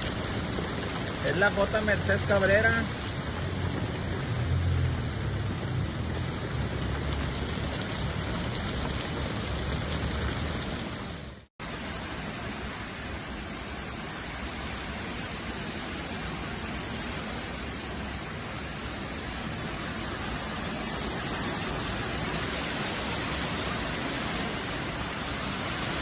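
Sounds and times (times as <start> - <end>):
wind and heavy rain: 0.0 - 26.0.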